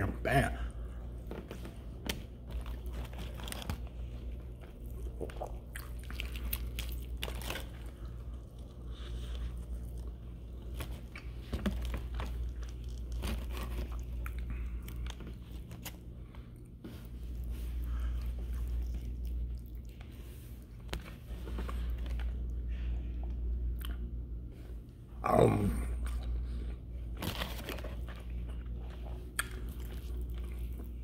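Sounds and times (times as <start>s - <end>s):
steady low hum: 0.0s - 31.0s
man chewing crunchy food: 0.7s - 22.6s, 25.9s - 31.0s.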